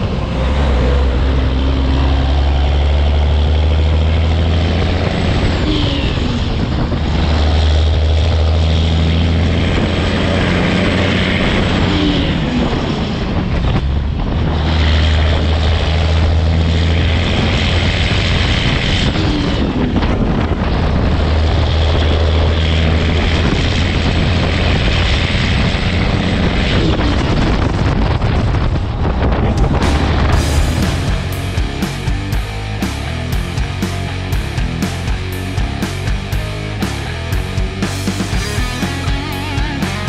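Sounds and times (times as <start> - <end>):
wind rushing over microphone: 0.0 - 33.4
diesel truck engine droning: 0.0 - 40.0.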